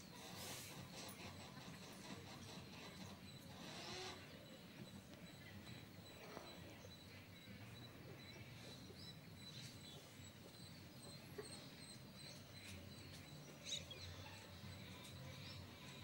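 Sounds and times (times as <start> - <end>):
faint chirps: 0.0 - 16.0.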